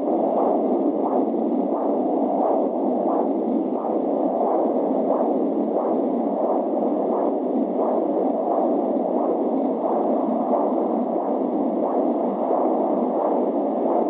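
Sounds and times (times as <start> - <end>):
rhythmic whooshing pulse: 0.0 - 14.0.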